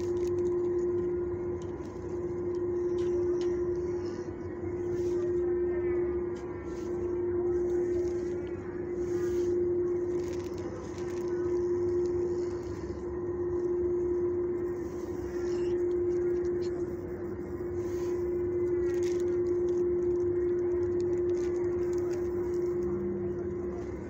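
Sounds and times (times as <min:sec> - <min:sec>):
low rumble: 0:00.0 - 0:24.0
steady mechanical hum: 0:00.0 - 0:24.0.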